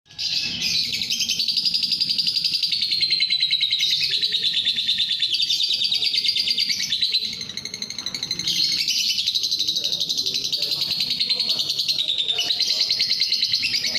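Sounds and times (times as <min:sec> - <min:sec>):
lovebird chattering: 0:00.1 - 0:13.9.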